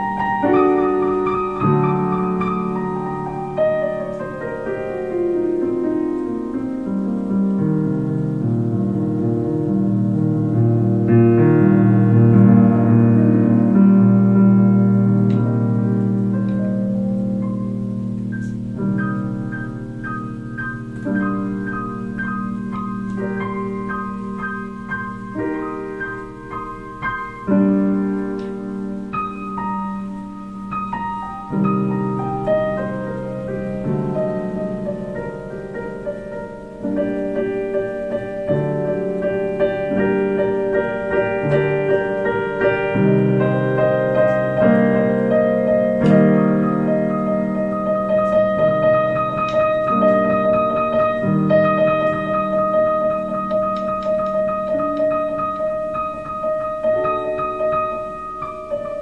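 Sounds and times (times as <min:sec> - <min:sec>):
slow piano improvisation: 0:00.0 - 0:59.0.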